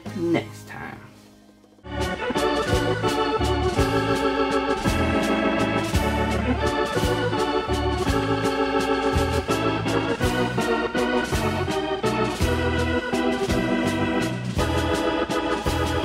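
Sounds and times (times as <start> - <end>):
bass line: 1.8 - 16.0
steady drum beat: 1.8 - 16.0.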